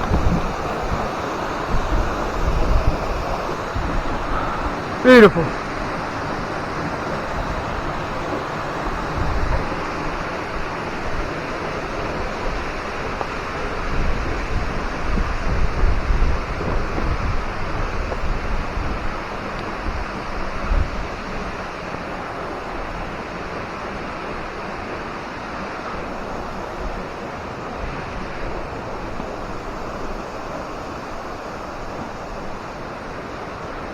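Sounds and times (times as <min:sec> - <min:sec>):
waterfall rushing: 0:00.0 - 0:33.9
wind buffeting microphone: 0:00.0 - 0:33.9.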